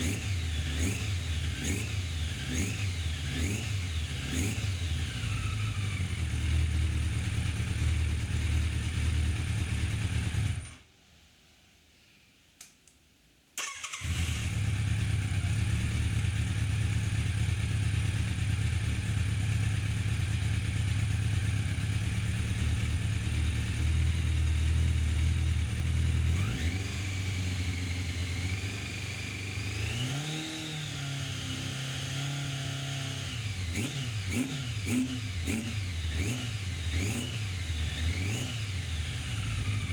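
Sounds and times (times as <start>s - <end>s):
motorcycle engine running: 0.0s - 10.8s, 14.1s - 39.9s.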